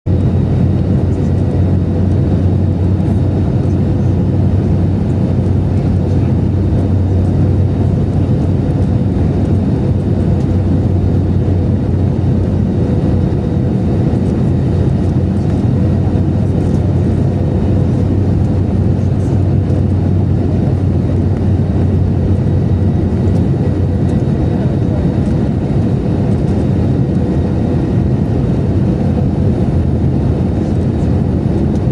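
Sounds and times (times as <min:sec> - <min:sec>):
airflow over fuselage: 0:00.1 - 0:31.9
jet engines rumbling: 0:00.1 - 0:31.9.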